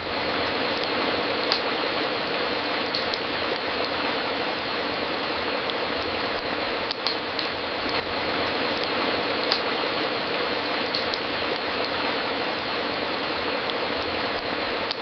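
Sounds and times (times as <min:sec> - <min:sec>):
steady hiss: 0:00.0 - 0:15.0
wood fire crackling: 0:00.0 - 0:15.0.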